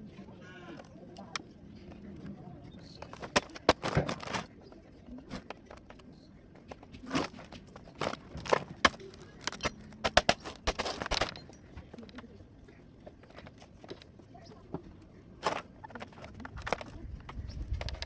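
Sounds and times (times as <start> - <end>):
plastic and metal parts clattering: 2.8 - 18.0.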